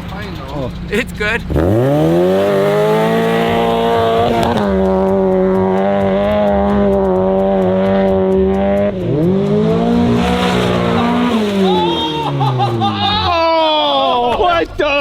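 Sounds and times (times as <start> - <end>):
car engine accelerating hard: 0.0 - 14.3.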